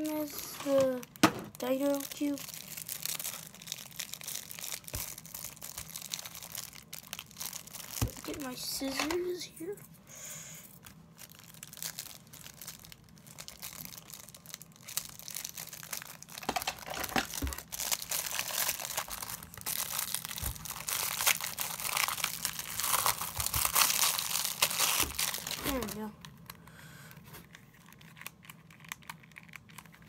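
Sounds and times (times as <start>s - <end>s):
plastic wrapping crinkling and tearing: 0.0s - 9.8s, 10.7s - 26.6s, 27.3s - 30.0s.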